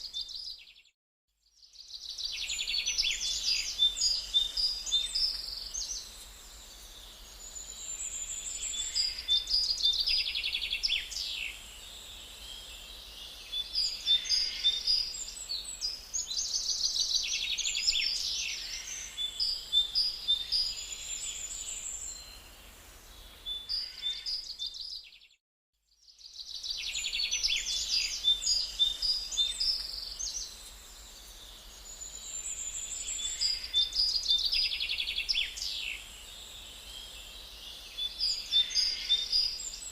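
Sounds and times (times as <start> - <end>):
birds chirping and trilling: 1.9 - 25.4, 26.3 - 39.9.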